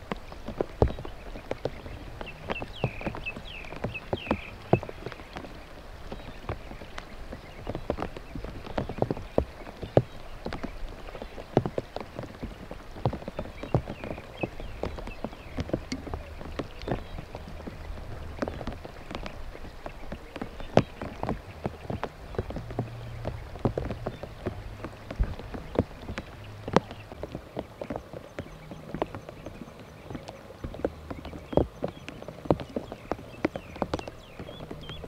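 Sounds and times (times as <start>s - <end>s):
raindrops tapping and dripping: 0.0s - 35.0s.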